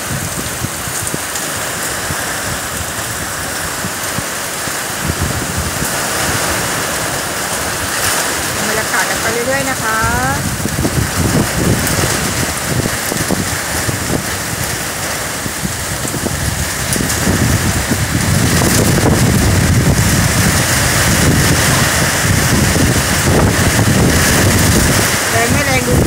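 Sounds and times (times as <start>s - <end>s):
heavy rain pouring: 0.0s - 26.0s
wind gusts buffeting microphone: 0.0s - 26.0s.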